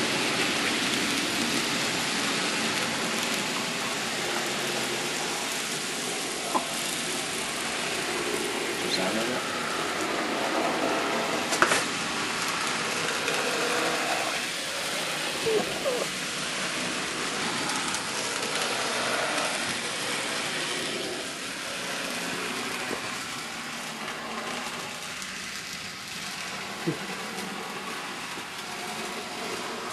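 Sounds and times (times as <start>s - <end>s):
model train motor whirring: 0.0s - 29.9s
wheels rolling on track: 0.0s - 29.9s.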